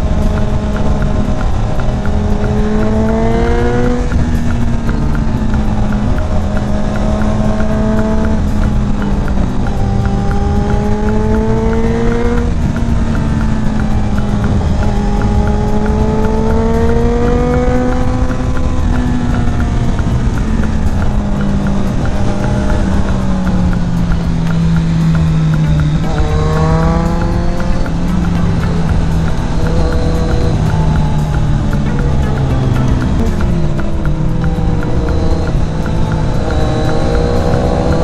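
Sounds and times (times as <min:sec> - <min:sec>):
motorcycle engine revving: 0:00.0 - 0:38.0
steady low drone: 0:00.0 - 0:38.0
wind rush: 0:00.0 - 0:38.0.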